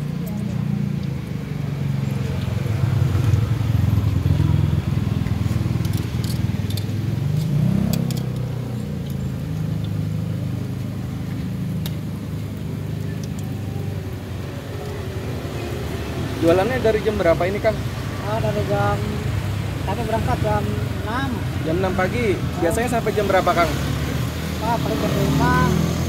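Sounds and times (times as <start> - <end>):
traffic engine rumble: 0.0 - 26.0
vehicle passing: 0.0 - 26.0.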